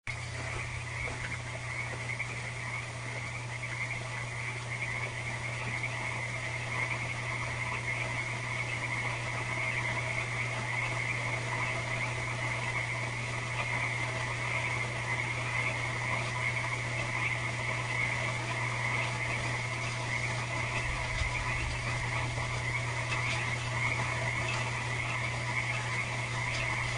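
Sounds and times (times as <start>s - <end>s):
frogs calling: 0.1s - 26.9s
steady low hum: 0.1s - 26.9s.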